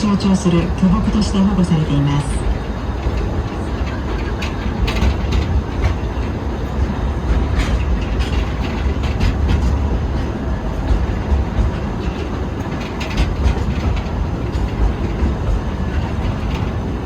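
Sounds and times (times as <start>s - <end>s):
train rumbling on track: 0.0s - 17.0s
wheels clacking on rail: 0.0s - 17.0s.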